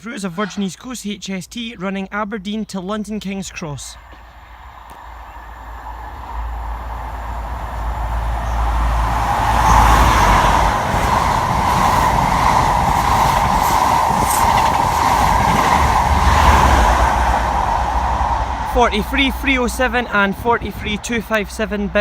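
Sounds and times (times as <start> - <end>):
diesel train passing: 4.0 - 22.0
train wheels on rail: 4.0 - 22.0.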